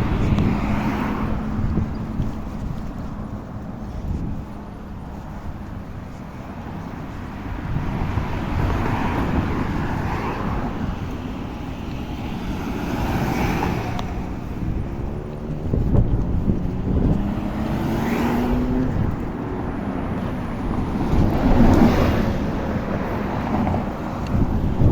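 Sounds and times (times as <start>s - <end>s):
road traffic going by: 0.0s - 24.9s
wind rumbling on microphone: 0.0s - 24.9s.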